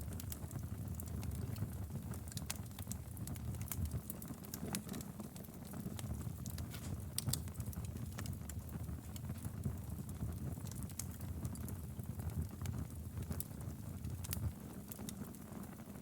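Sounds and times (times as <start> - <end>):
firewood crackling and popping: 0.0 - 16.0
low rumble of flames: 0.0 - 16.0.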